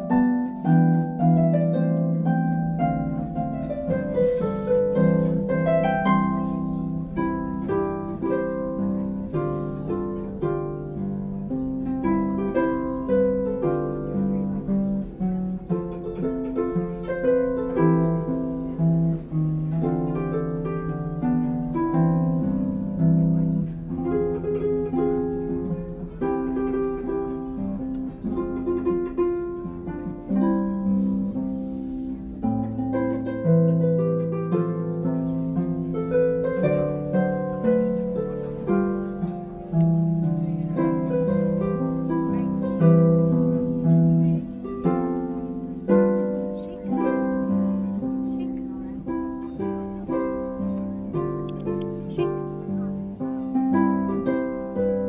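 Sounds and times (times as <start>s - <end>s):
harp music: 0.0s - 55.0s.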